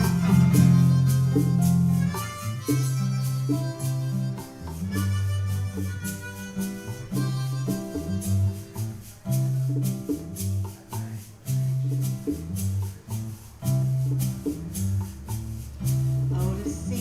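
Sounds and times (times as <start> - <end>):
guitar rhythmic line: 0.0 - 17.0
pulsing bass pattern: 0.0 - 17.0
shaker keeping time: 0.0 - 17.0.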